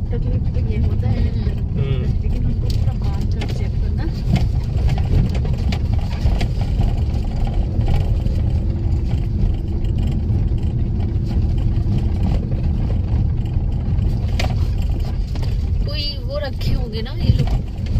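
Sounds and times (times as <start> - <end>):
car engine and road rumble: 0.0 - 17.9
small knocks and rattles: 0.6 - 17.9.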